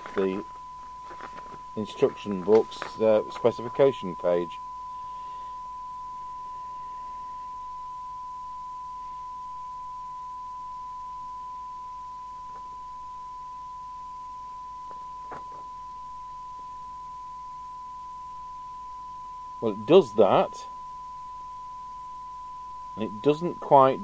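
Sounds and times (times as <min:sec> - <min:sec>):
steady test tone from speaker: 0:00.0 - 0:24.0.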